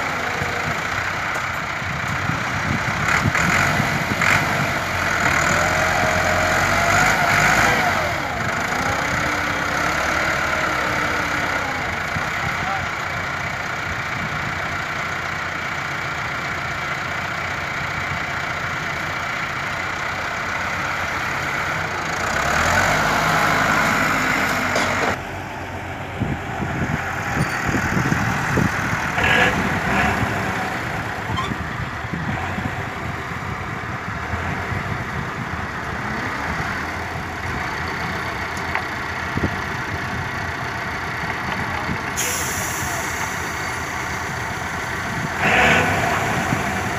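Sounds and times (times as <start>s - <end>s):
loaded truck engine running: 0.0s - 46.9s
tractor diesel engine running: 0.0s - 46.9s.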